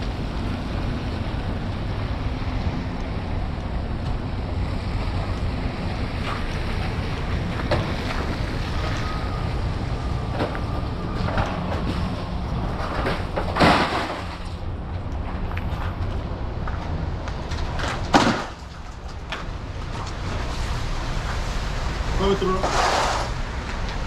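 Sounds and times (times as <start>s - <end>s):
wind buffeting microphone: 0.0s - 13.5s, 14.5s - 24.0s.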